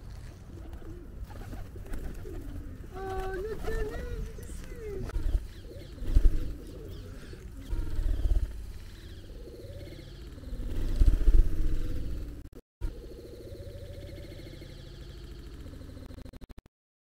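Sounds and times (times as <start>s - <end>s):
pigeons cooing: 0.0s - 16.2s.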